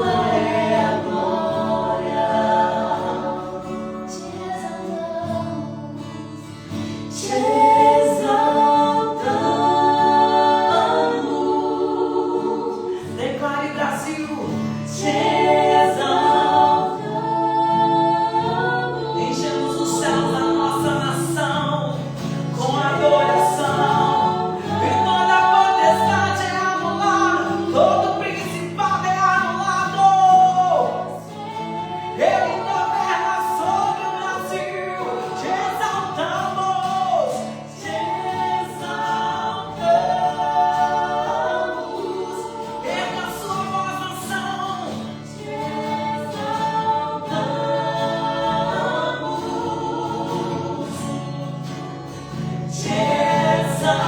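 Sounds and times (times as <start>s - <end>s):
voices singing together: 0.0s - 54.0s.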